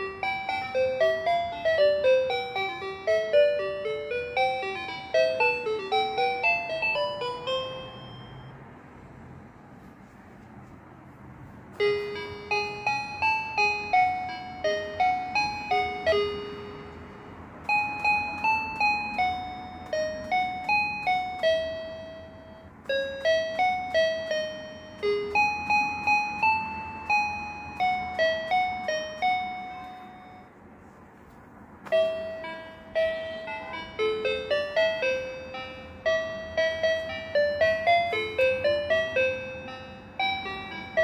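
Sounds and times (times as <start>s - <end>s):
electronic piano notes: 0.0s - 8.7s, 11.5s - 30.7s, 31.5s - 41.0s.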